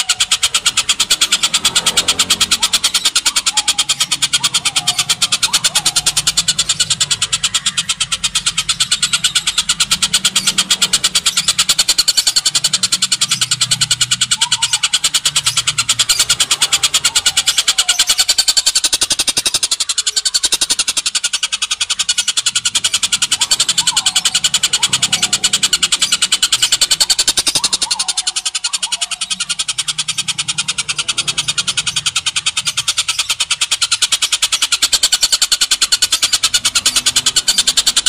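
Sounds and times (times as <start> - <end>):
bird harsh chattering rattle: 0.0 - 38.0.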